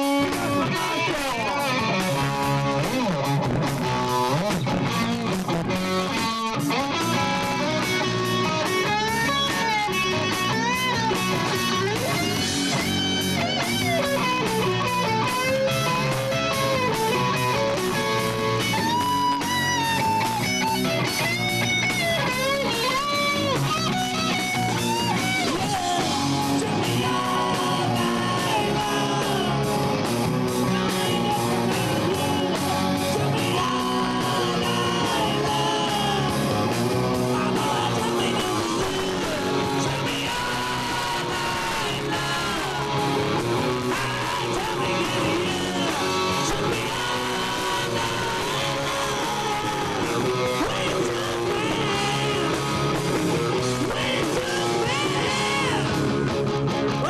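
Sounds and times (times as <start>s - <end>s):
bass: 0.0s - 57.0s
drums: 0.0s - 57.0s
electric guitar lead: 0.0s - 57.0s.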